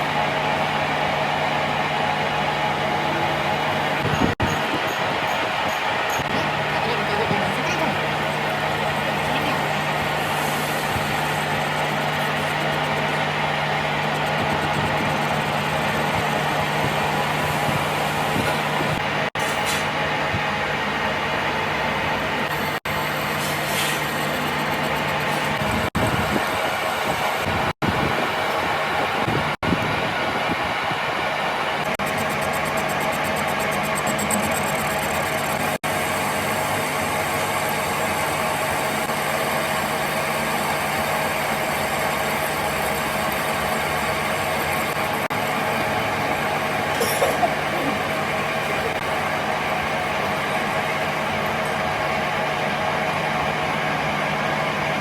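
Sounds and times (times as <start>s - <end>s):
machine humming: 0.0s - 19.4s, 20.1s - 55.0s.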